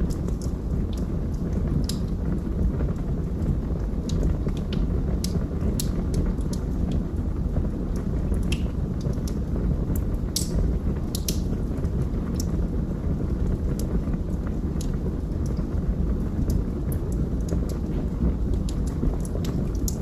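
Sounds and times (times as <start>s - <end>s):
fire crackling and popping: 0.0s - 20.0s
roar of flames: 0.0s - 20.0s.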